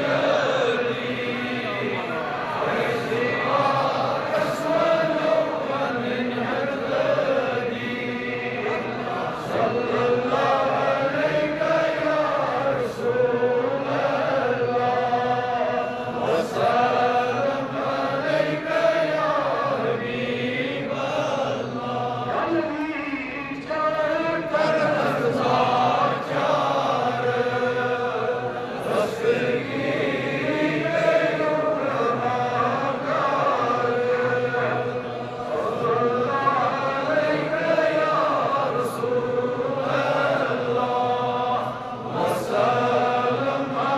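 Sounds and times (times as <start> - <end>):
voices chanting: 0.0 - 22.5, 24.2 - 43.9.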